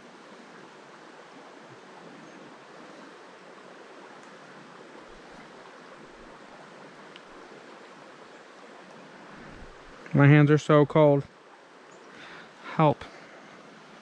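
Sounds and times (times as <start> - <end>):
flowing creek: 0.0 - 14.0.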